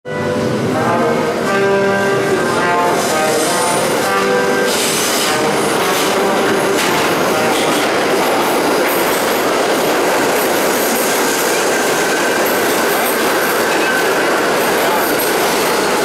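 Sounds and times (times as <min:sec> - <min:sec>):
subway train running past: 0:00.0 - 0:16.0.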